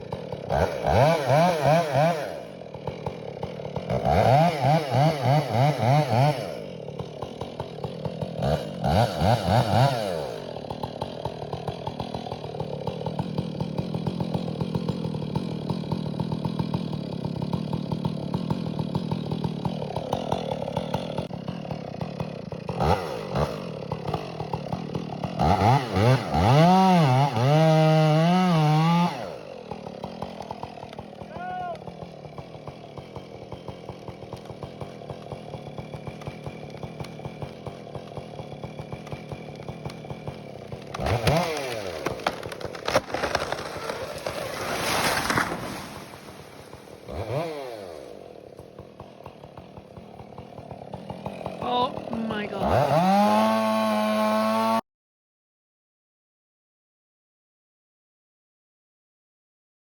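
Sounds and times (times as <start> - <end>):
chainsaw revving: 0.0 - 54.8.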